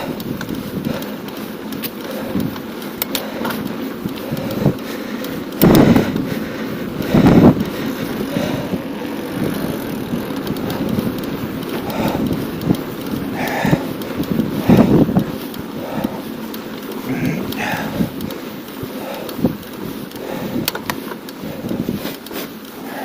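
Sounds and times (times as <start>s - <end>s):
wind rushing over microphone: 0.0s - 16.4s, 17.0s - 22.3s
bicycle tyre noise: 0.0s - 23.0s.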